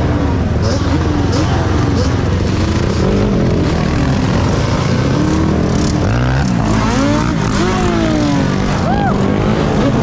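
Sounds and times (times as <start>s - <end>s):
vehicle engines running: 0.0s - 10.0s
engine revving up: 0.6s - 10.0s.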